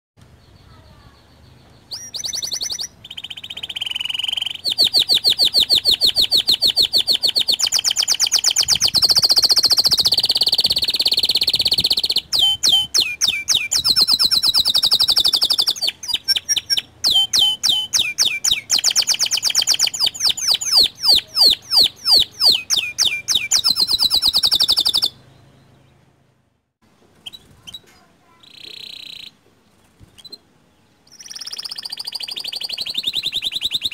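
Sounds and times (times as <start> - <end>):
canary singing trills: 0.2 - 26.2, 27.2 - 33.9.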